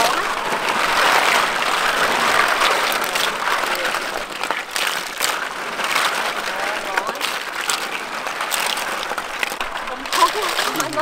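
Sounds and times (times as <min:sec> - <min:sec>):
snail shells clattering: 0:00.0 - 0:11.0
water splashing and sloshing: 0:00.0 - 0:11.0.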